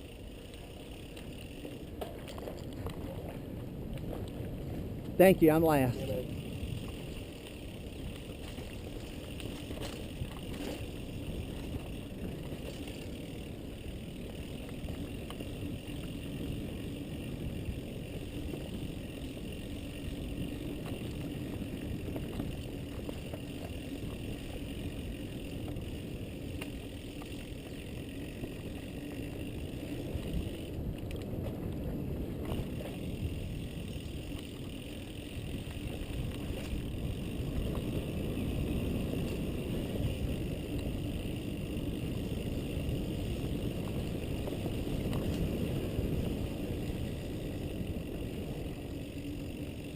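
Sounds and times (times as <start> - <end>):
bike clicks and rattles: 0.0 - 49.9
bike tyres rumbling on dirt: 0.0 - 49.9.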